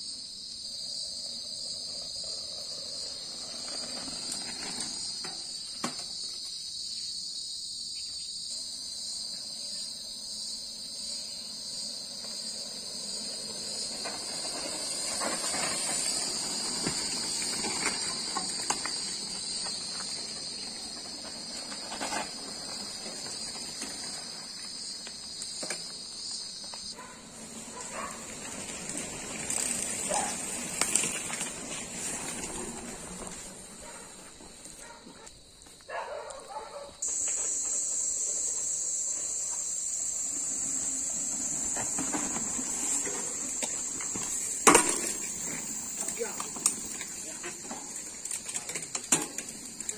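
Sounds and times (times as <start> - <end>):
insects chirping: 0.0 - 49.9
mountain bikes riding past: 0.0 - 49.9.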